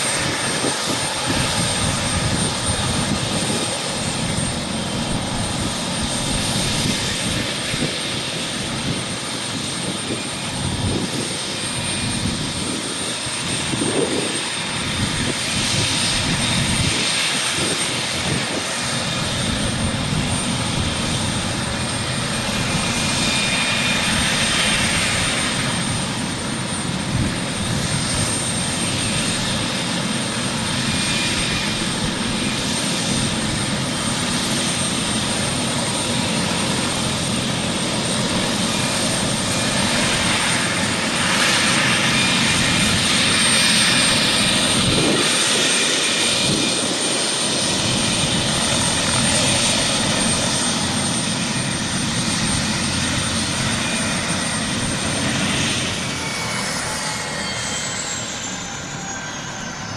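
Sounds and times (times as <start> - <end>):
helicopter rotor and turbine noise: 0.0 - 59.9
thin high turbine whine: 0.0 - 59.9.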